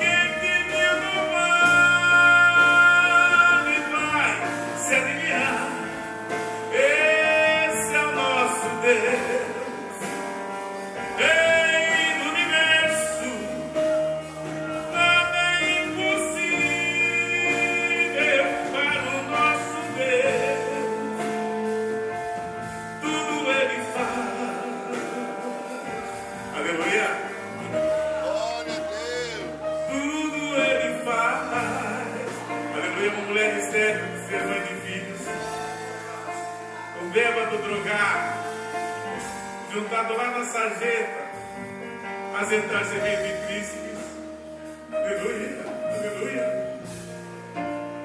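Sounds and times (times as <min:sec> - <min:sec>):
wavering lead melody: 0:00.0 - 0:39.6
live gospel band: 0:00.0 - 0:48.0.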